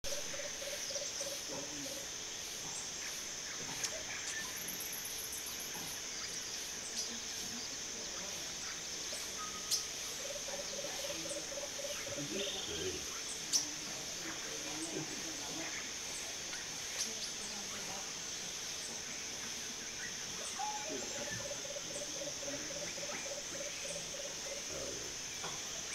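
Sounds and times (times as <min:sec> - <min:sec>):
faint bird calls: 0:00.0 - 0:25.9
insect drone: 0:00.0 - 0:25.9.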